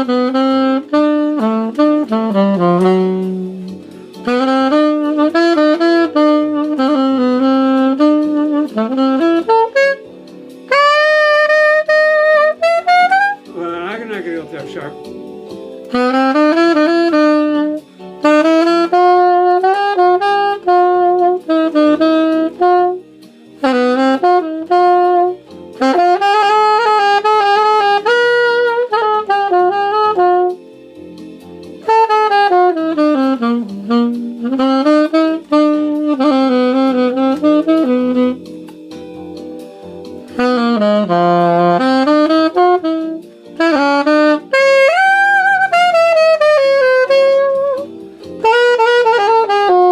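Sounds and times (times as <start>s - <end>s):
alto saxophone playing a tune: 0.0s - 49.9s.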